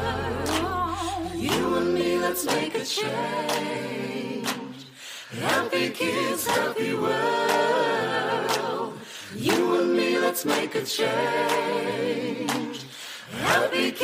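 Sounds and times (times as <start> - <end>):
voices singing together: 0.0 - 14.0.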